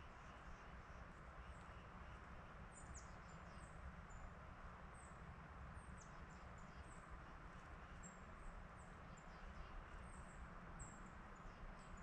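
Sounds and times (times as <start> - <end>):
woodland ambience hush: 0.0 - 12.0.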